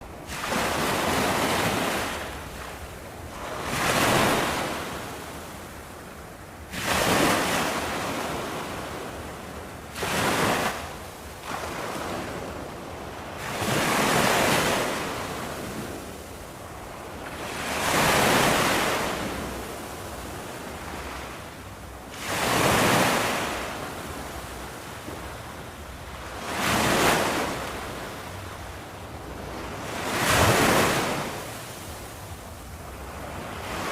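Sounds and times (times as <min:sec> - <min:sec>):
waves breaking on beach: 0:00.0 - 0:33.9.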